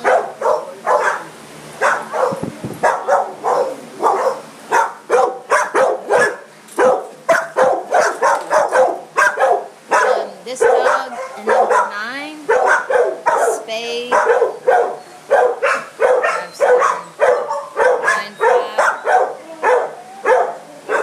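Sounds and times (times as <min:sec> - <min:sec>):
dogs barking: 0:00.0 - 0:21.0.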